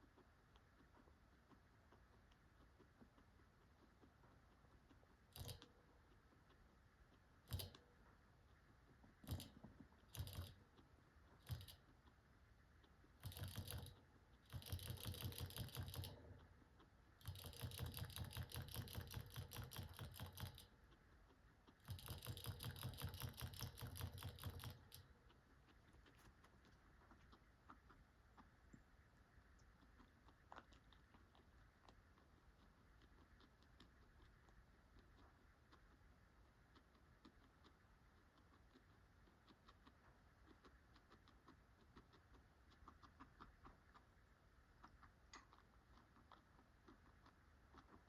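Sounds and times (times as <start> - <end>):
guinea pig chewing pellets: 0.0 - 48.0.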